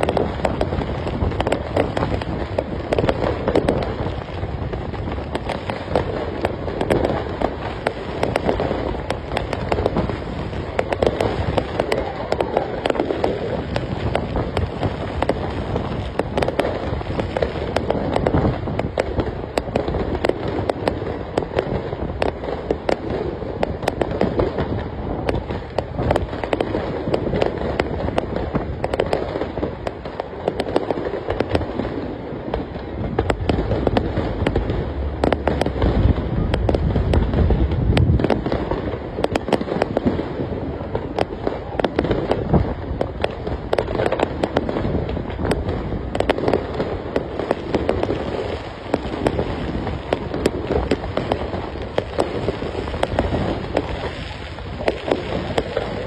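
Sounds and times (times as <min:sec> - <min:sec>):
booming firework shells: 0:00.0 - 0:56.0
fireworks crackling and popping: 0:00.0 - 0:56.0.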